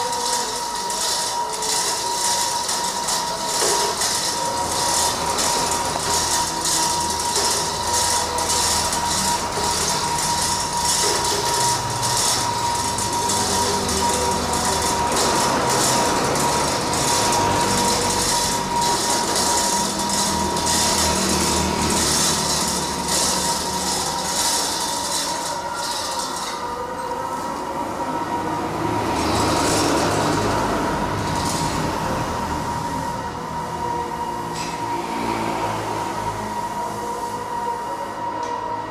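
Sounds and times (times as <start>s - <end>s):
stone crusher machine running: 0.0s - 38.9s
thin steady whine: 0.0s - 38.9s.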